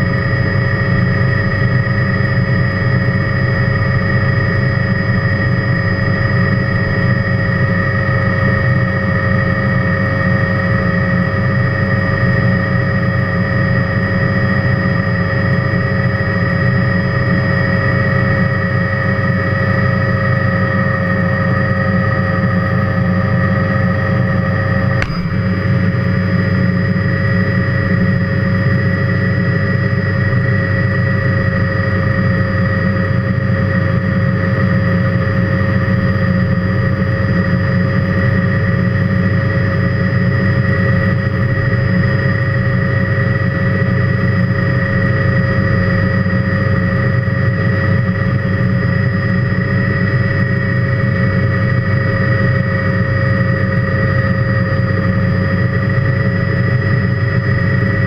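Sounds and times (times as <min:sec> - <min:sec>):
helicopter engine and rotor rumble: 0:00.0 - 0:58.0
high turbine whine: 0:00.0 - 0:58.0.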